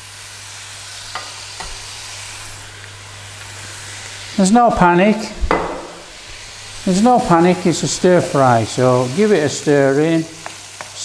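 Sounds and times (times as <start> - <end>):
stir-fry sizzling in a pan: 0.0 - 11.0.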